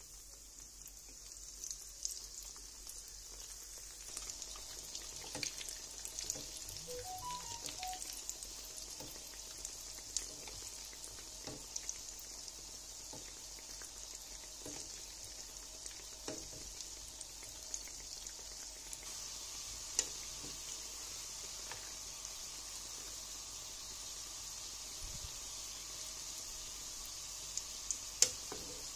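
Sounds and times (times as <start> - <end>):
dough sizzling in hot oil: 0.0 - 28.9.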